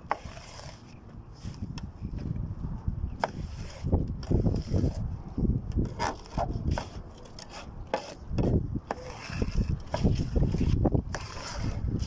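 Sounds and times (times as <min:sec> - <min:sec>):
shovels scraping and digging sand: 0:00.0 - 0:12.0.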